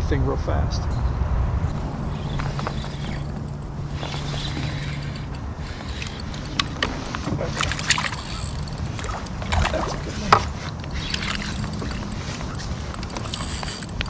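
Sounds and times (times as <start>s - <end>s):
fishing gear clicks and knocks: 2.2s - 14.0s.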